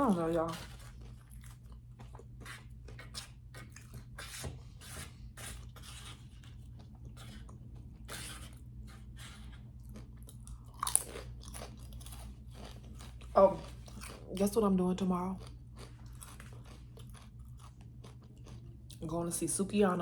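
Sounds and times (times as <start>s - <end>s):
mouth chewing food: 0.0s - 19.1s
steady low hum: 0.0s - 20.0s.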